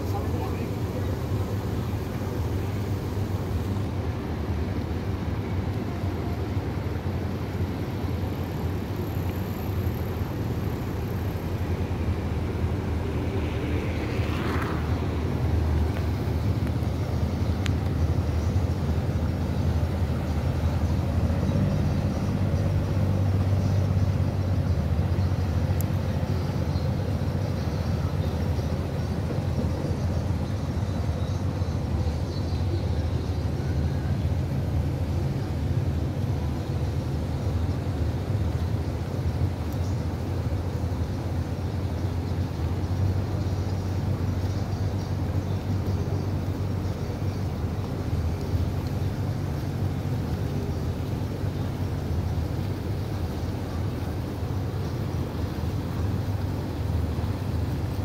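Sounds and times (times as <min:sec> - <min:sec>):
low rumble of city background noise: 0:00.0 - 0:58.0.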